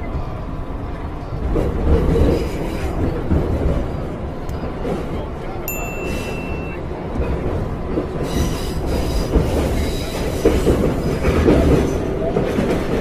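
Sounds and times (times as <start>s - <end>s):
subway train rumbling and rattling: 0.0s - 13.0s.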